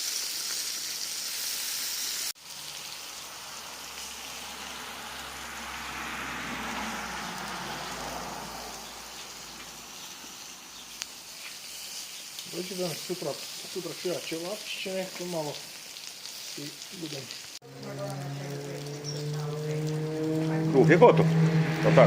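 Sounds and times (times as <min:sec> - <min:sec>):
meat sizzling on a grill: 0:00.0 - 0:20.9.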